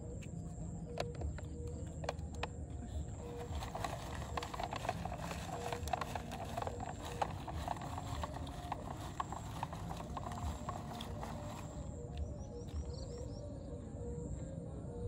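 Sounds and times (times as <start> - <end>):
chewing with crunches: 0.0 - 13.4.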